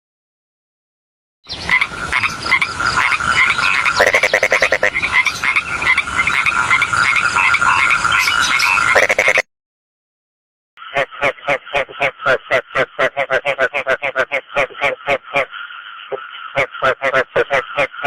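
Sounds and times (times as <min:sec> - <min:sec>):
deep rattling frog call: 0:01.5 - 0:09.4, 0:10.8 - 0:18.0
frogs croaking: 0:01.5 - 0:09.4, 0:10.8 - 0:18.0.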